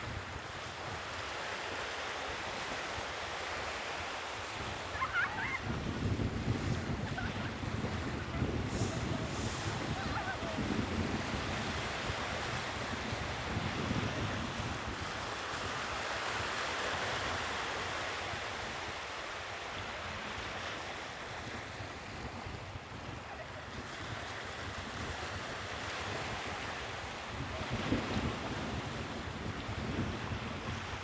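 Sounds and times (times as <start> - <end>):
sea waves breaking on shore: 0.0 - 31.0
wind buffeting microphone: 3.6 - 19.0, 19.8 - 31.0.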